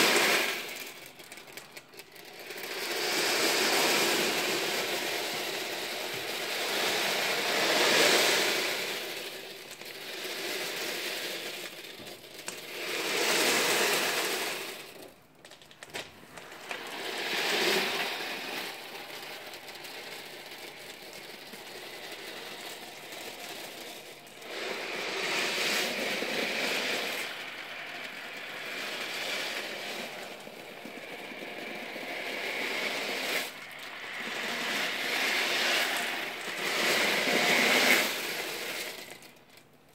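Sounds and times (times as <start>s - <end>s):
steel ball bearings rattling: 0.0s - 39.9s.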